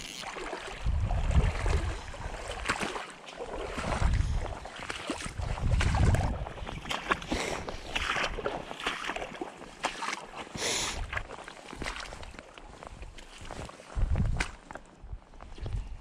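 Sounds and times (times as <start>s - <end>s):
footsteps squelching through bog: 0.0s - 16.0s.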